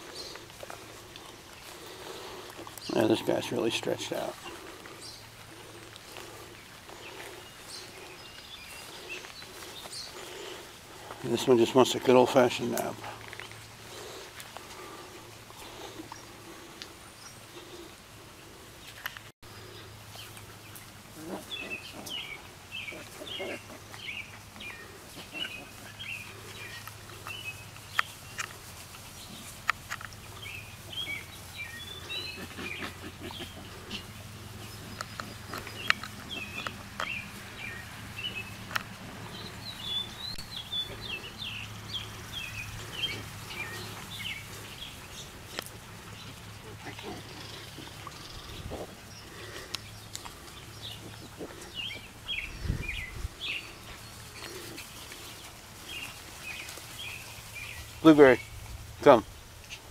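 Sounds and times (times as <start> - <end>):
birds chirping: 0.0 - 59.9
puppies playing in grass: 0.0 - 59.9.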